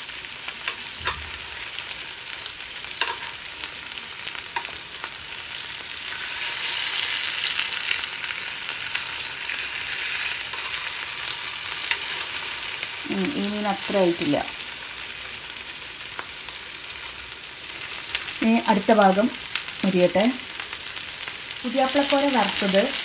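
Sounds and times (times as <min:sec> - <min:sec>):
oil sizzling in a pan: 0:00.0 - 0:23.0.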